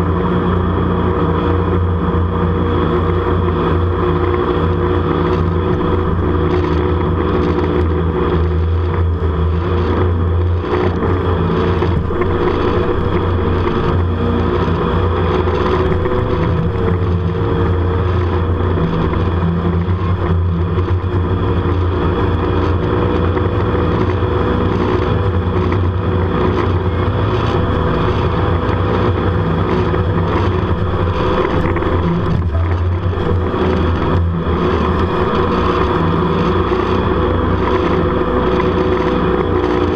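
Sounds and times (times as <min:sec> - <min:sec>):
boat engine running hard: 0:00.0 - 0:39.9
wind on microphone: 0:00.0 - 0:39.9.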